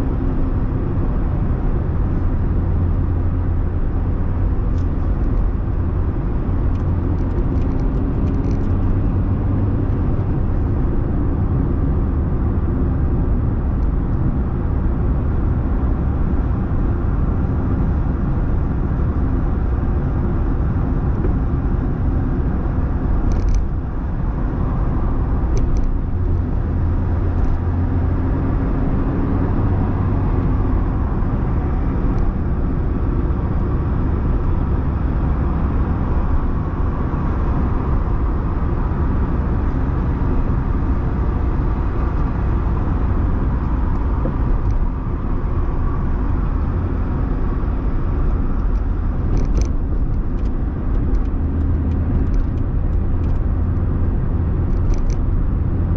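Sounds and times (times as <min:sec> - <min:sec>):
car road noise rumble: 0:00.0 - 0:55.9.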